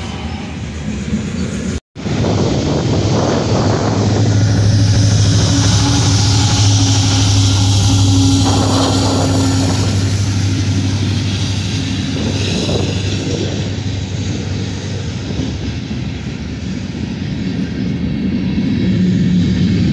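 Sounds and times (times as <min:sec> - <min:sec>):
freight cars rumbling on rails: 0:00.0 - 0:19.9
locomotive engine drone: 0:00.0 - 0:19.9.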